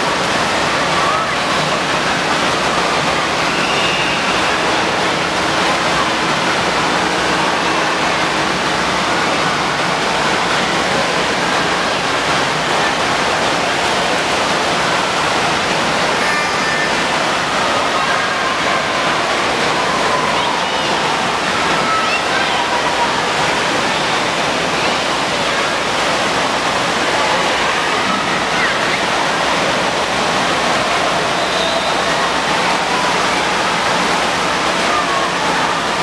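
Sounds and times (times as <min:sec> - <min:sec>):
faint children's voices: 0:00.0 - 0:36.0
rushing water: 0:00.0 - 0:36.0.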